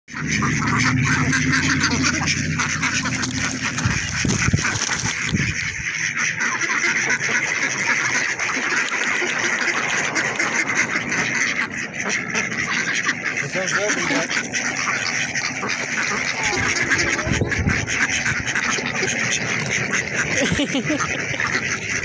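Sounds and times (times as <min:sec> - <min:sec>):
ducks quacking: 0:00.1 - 0:22.0
low steady hum: 0:00.1 - 0:22.0.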